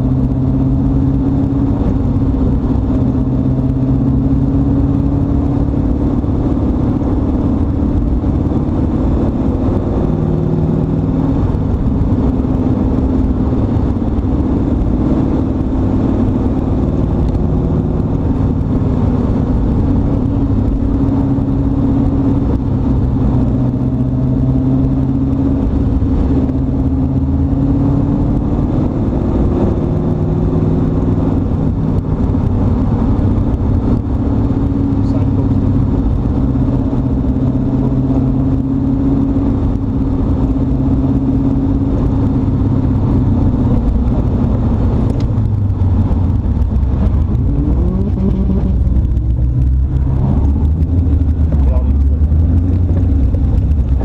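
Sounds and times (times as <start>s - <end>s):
car engine cruising: 0.0s - 54.0s.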